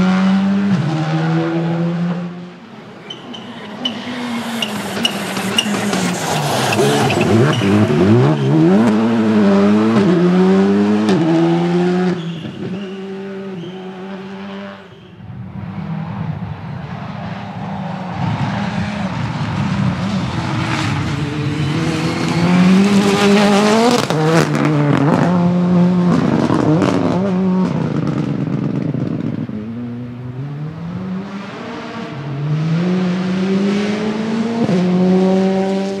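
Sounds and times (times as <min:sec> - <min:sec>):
rally car engine accelerating: 0:00.0 - 0:36.0.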